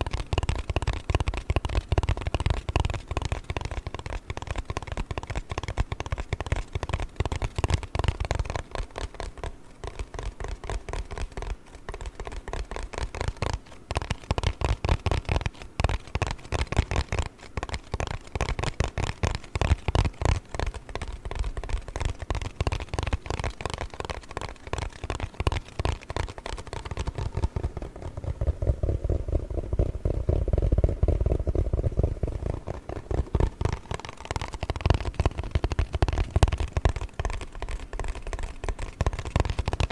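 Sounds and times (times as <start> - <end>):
tapping and scratching on cardboard: 0.0 - 39.9.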